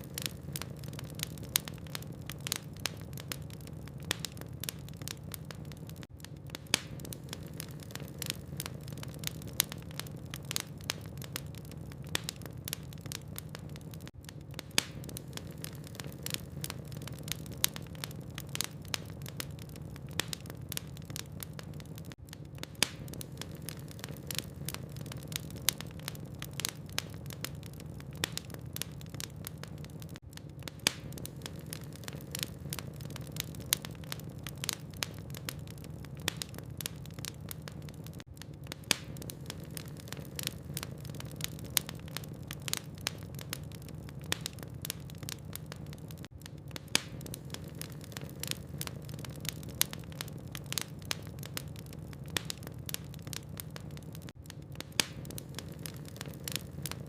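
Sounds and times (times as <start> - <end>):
logs crackling in a fireplace: 0.0 - 57.0.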